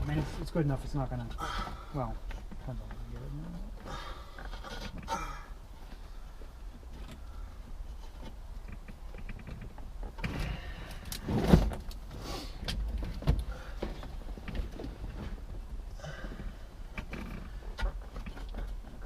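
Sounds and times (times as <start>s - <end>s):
rustling and clunks of parts: 0.0s - 19.0s.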